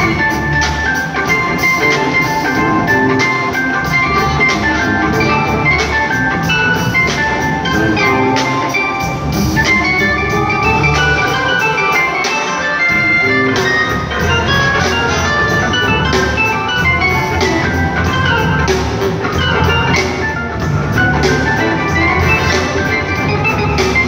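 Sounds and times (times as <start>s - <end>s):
live blues-rock band: 0.0s - 24.0s.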